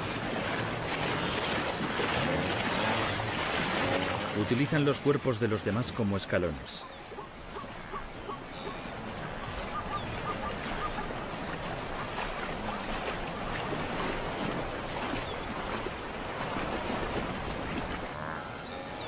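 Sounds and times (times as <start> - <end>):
animals splashing through river: 0.0 - 19.0.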